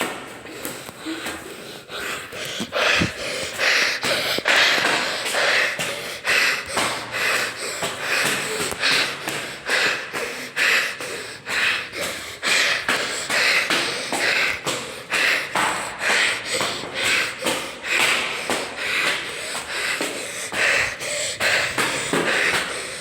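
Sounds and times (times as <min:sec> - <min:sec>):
footsteps on stairs: 0:00.0 - 0:23.0
person breathing hard: 0:00.0 - 0:23.0.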